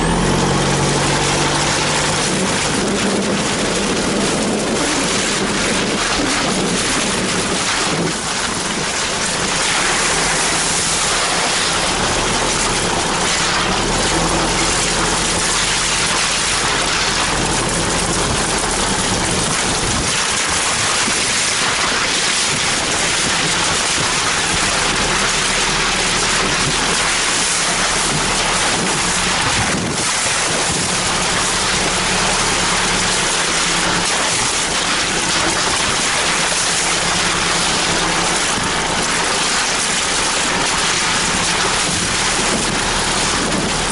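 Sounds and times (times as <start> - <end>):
low engine hum: 0.0 - 43.9
tyre and wind noise: 0.0 - 43.9.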